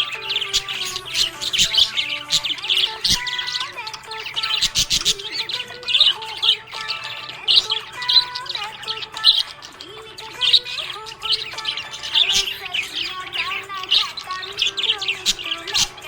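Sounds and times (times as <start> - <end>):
budgerigars chirping: 0.0 - 16.0.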